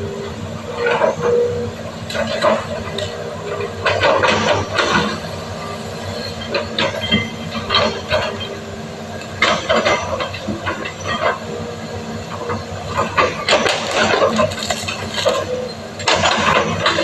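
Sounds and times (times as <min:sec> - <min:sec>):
excavator diesel engine running: 0:00.0 - 0:17.0
metallic clanks of steel tracks: 0:00.0 - 0:17.0.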